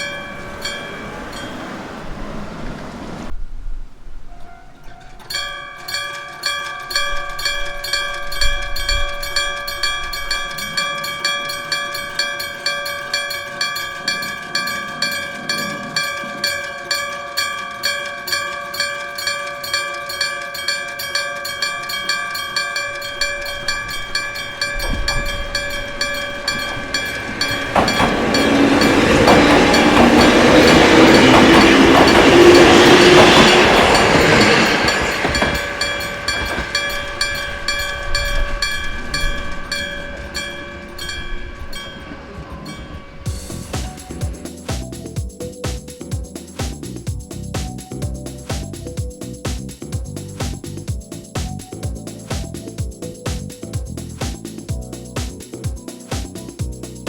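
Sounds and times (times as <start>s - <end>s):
level crossing bell ringing: 0.0s - 2.2s, 4.6s - 49.5s
train rumble: 0.0s - 57.0s.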